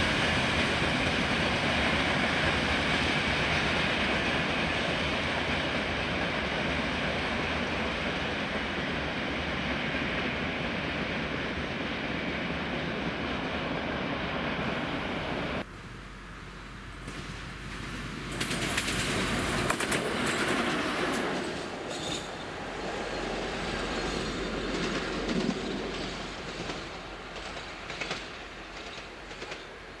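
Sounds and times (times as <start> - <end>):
train clicking and clatter: 0.0 - 14.8, 16.8 - 30.0
train rumbling by: 0.0 - 30.0.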